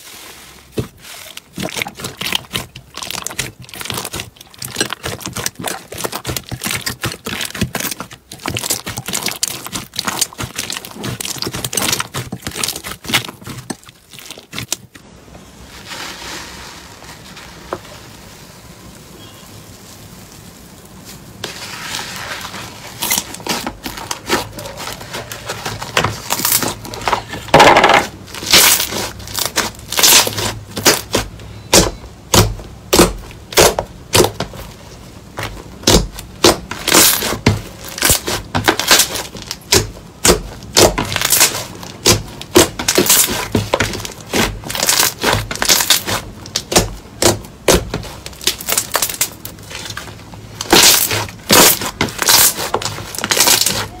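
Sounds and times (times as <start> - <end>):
slime popping and crackling: 0.7 - 15.1, 22.4 - 54.0.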